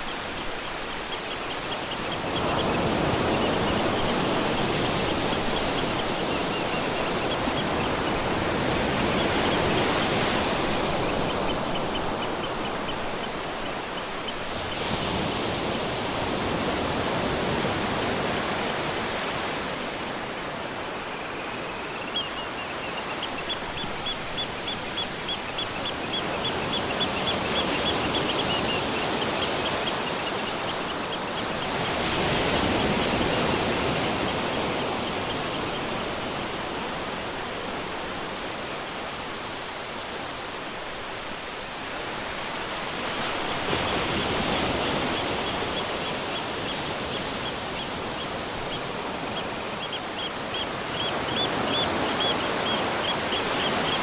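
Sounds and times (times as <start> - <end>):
ocean surf washing: 0.0 - 54.0.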